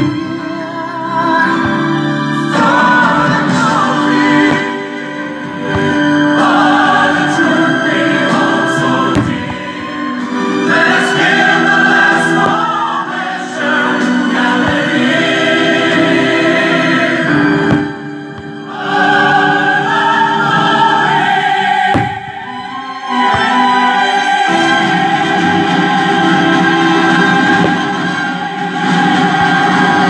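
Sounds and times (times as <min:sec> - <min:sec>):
choir and orchestra: 0:00.0 - 0:30.0
fireworks bursting: 0:01.5 - 0:30.0.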